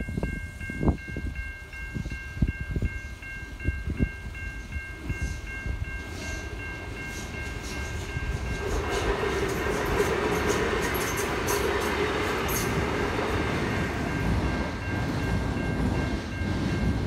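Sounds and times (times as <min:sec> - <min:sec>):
level-crossing bell ringing: 0:00.0 - 0:17.0
passenger train passing: 0:00.0 - 0:17.0.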